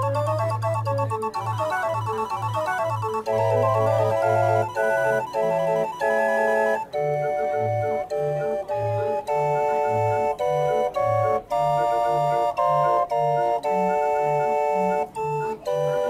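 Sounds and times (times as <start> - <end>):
street organ playing a tune: 0.0 - 16.0.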